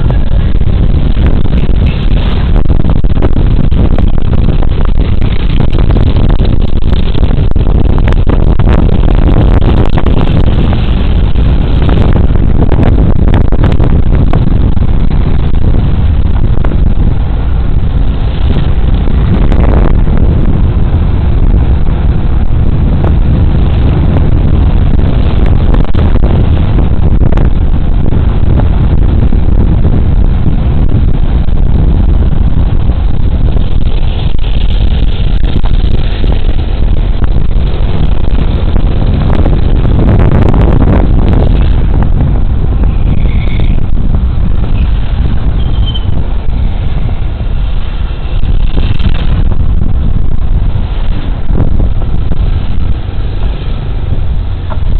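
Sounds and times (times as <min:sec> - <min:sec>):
wind and road noise: 0:00.0 - 0:54.9.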